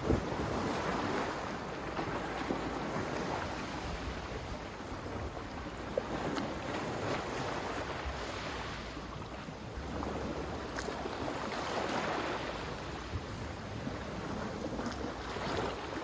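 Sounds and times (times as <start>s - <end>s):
sea waves surf: 0.0s - 16.0s
wind: 0.0s - 16.0s.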